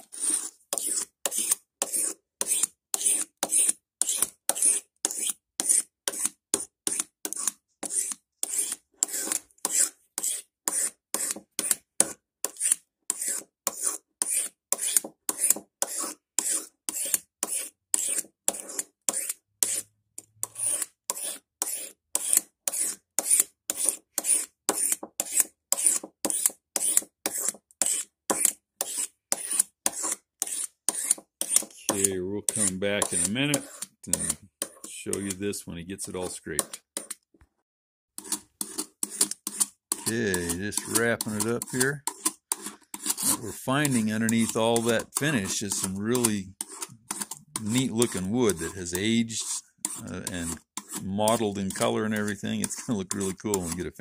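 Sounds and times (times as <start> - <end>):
blade scraping wood: 0.0 - 37.2, 38.2 - 54.0.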